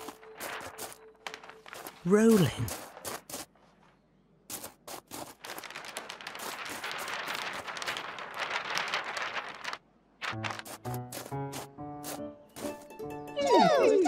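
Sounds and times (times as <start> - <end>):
stiff paper crackling: 0.0 - 3.9, 4.5 - 12.9.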